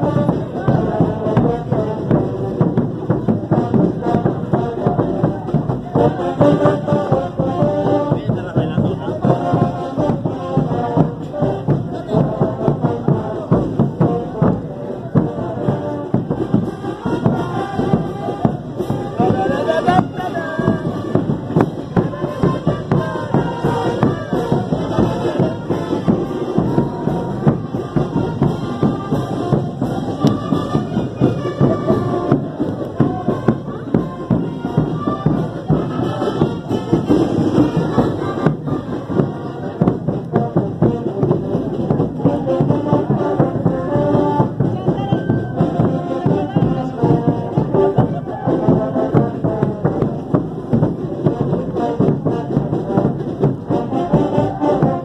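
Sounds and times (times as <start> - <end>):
brass band playing dance tune: 0.0 - 55.0
steady drum beat: 0.0 - 55.0.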